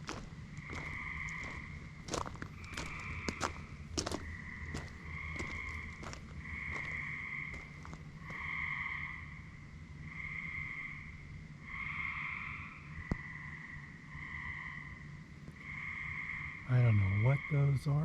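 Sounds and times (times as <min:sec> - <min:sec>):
chorus of night animal calls: 0:00.0 - 0:18.0.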